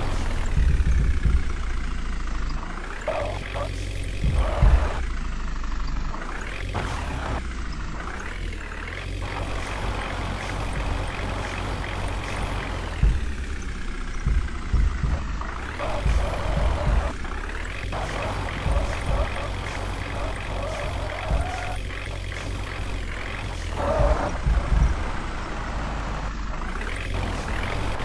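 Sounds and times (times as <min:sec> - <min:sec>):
sharp low thumps: 0:00.0 - 0:05.4, 0:09.2 - 0:28.0
tractor engine running: 0:00.0 - 0:28.0.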